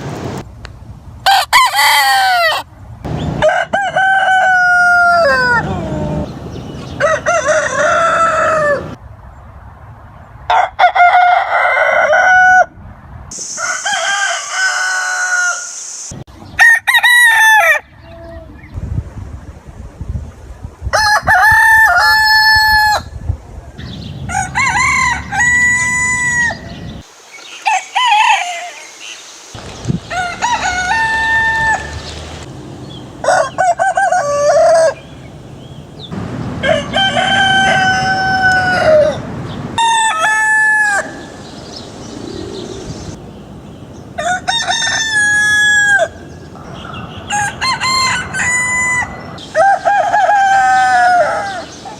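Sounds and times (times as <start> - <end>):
roosters crowing: 1.2 - 9.0, 10.5 - 12.8, 13.4 - 15.9, 16.5 - 18.1, 21.0 - 23.2, 23.8 - 27.0, 27.6 - 28.9, 30.0 - 43.2, 43.9 - 51.9.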